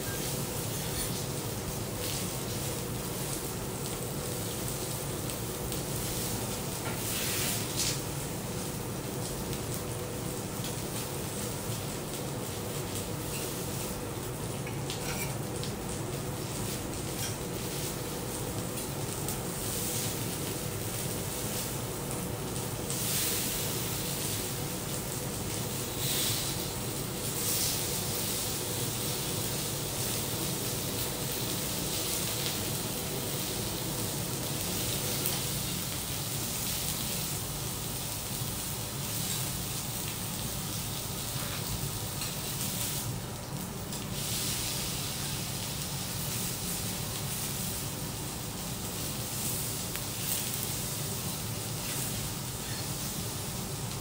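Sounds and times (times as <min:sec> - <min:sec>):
beef sizzling on a steel griddle: 0:00.0 - 0:54.0.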